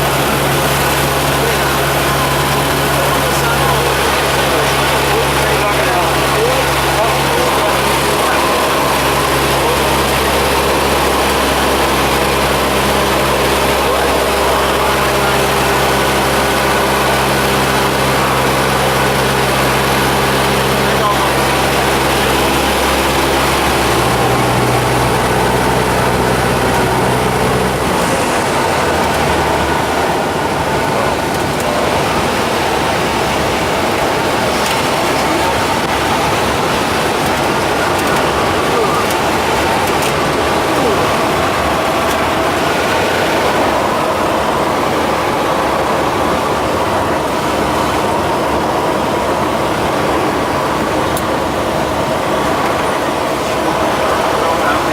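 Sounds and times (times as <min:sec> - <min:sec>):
airplane engine and propeller droning: 0:00.0 - 0:54.9.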